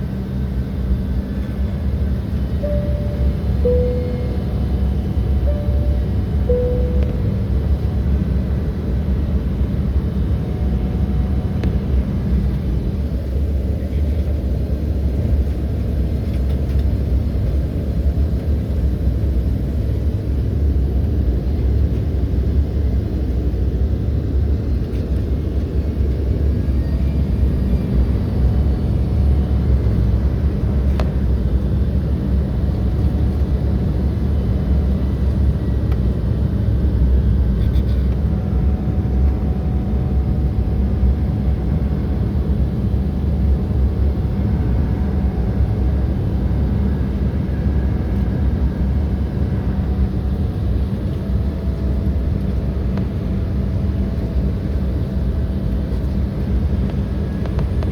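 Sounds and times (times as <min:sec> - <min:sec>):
airliner cabin rumble: 0:00.0 - 0:57.9.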